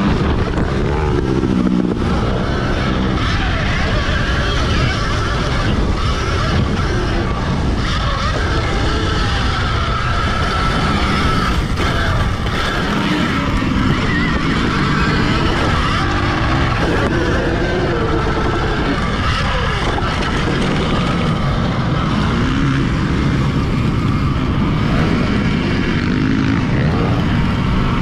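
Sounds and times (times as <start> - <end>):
electric motorbike motor whine: 0.0 - 28.0
heavy wind rush: 0.0 - 28.0.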